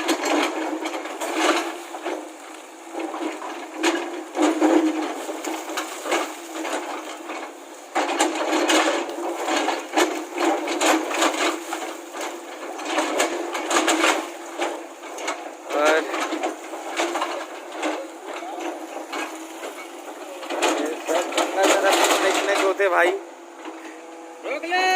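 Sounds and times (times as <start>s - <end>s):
knocking and clattering: 0.0s - 24.0s.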